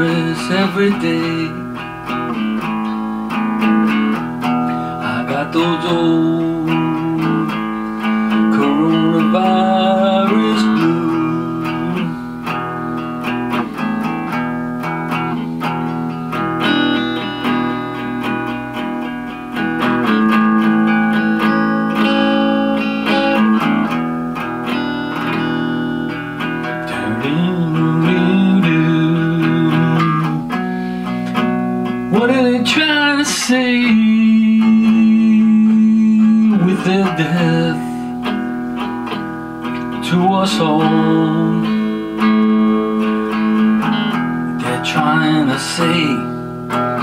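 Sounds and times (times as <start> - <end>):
electric guitar playing blues: 0.0 - 47.0.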